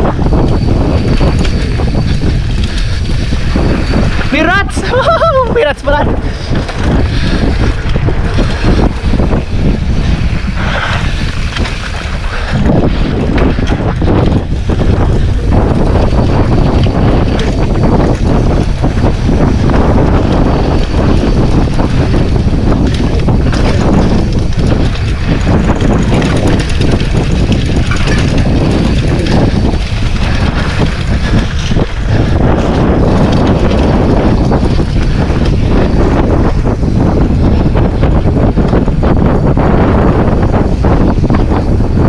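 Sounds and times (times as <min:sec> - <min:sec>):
bike rattling: 0:00.0 - 0:42.0
tyres rolling on dirt trail: 0:00.0 - 0:42.0
wind buffeting microphone: 0:00.0 - 0:42.0.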